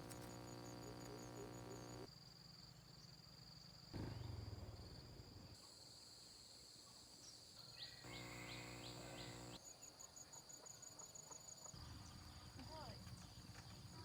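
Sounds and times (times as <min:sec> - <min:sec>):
insects buzzing and chirping: 0:00.0 - 0:14.0.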